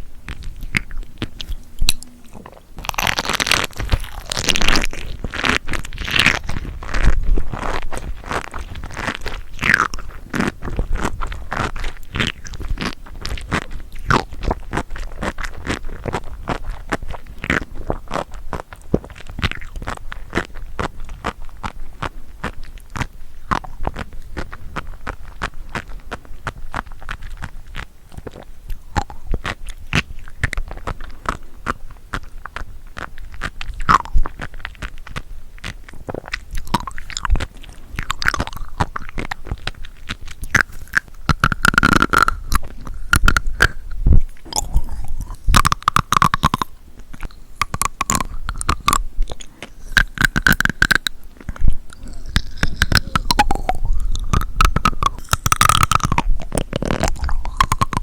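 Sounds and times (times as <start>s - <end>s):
chewing seafood crisp pops: 0.0s - 58.0s
wet mouth sounds: 0.0s - 58.0s.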